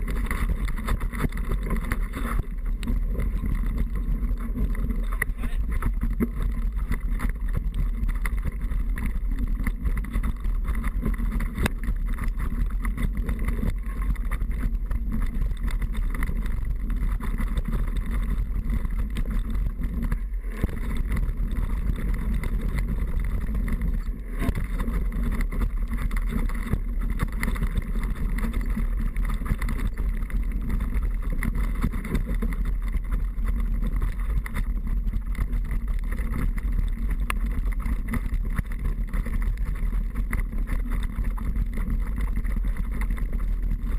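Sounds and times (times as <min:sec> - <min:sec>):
bike rattling over rough ground: 0:00.0 - 0:43.9
wind rushing on microphone: 0:00.0 - 0:43.9.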